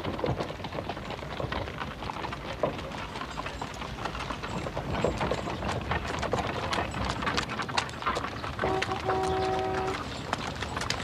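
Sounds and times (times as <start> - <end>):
donkey hooves clip-clopping: 0.0 - 11.0.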